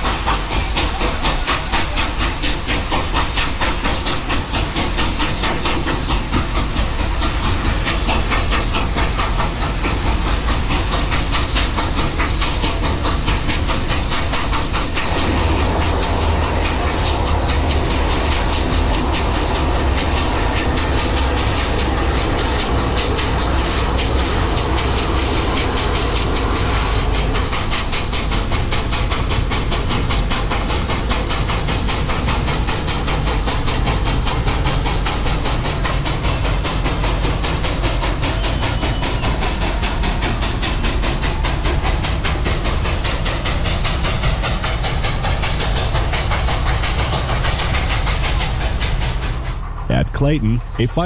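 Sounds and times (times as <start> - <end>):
coaches rolling on rails: 0.0 - 51.0
steam hissing: 0.0 - 51.0
steam locomotive working: 0.0 - 51.0.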